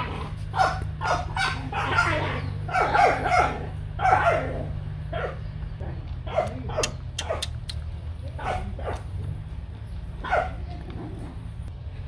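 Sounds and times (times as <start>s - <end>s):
dogs yipping and barking: 0.0s - 11.7s.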